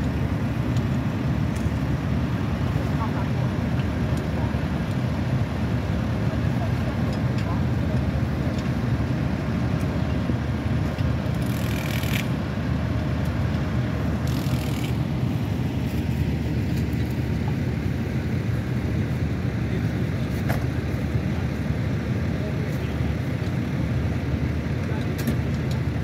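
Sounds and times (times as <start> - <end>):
tractor diesel engines rumbling: 0.0 - 26.0.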